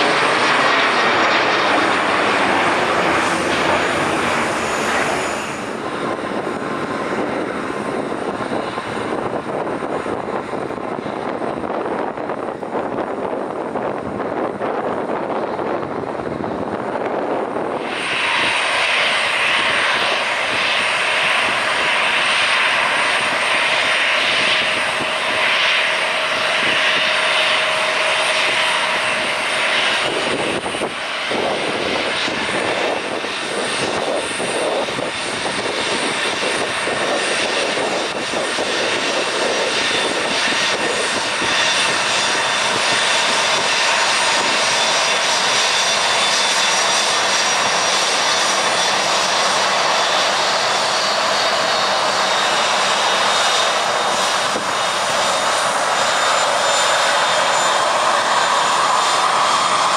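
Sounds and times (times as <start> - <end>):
jet engines whining at taxi power: 0.0 - 59.9
jet taxiing past: 0.0 - 59.9.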